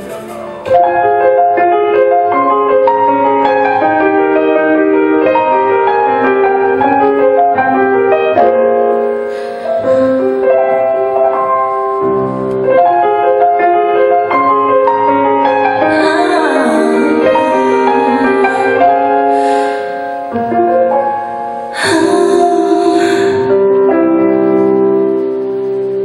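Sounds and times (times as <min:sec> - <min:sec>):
instrumental melody: 0:00.0 - 0:26.0.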